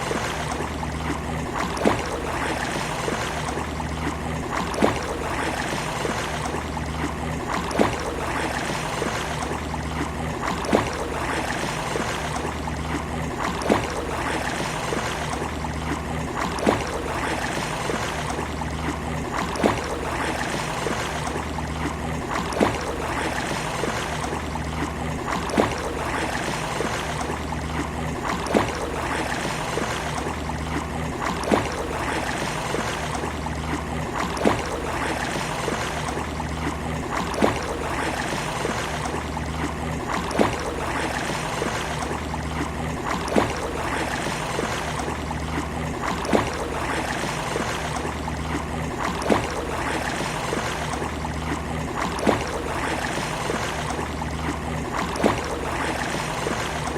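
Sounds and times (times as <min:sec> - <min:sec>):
sea water washing: 0:00.0 - 0:56.9.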